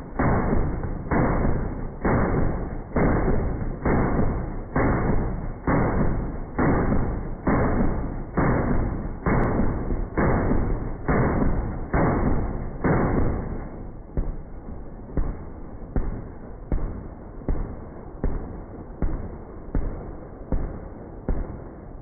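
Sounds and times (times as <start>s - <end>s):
slowed machine-gun booms: 0.0s - 22.0s.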